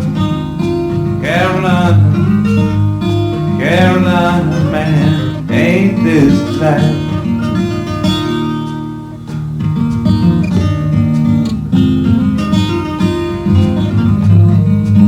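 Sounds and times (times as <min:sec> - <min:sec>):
acoustic guitar strumming and picking: 0:00.0 - 0:15.0.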